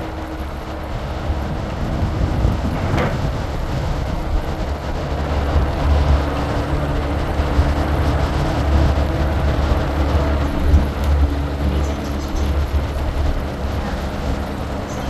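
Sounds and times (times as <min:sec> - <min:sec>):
vehicle rumble from inside: 0:00.0 - 0:15.0.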